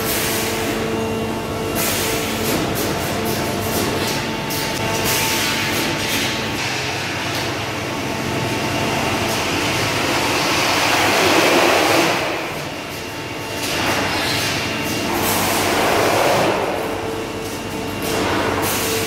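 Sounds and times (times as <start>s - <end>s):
conveyor machinery humming: 0.0s - 19.0s.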